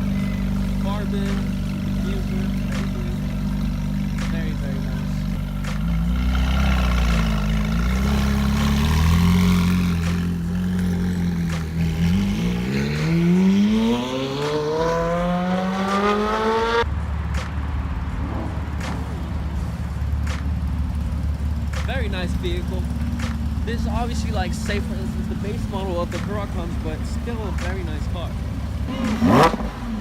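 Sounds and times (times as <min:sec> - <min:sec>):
sports car engine accelerating: 0:00.0 - 0:30.0.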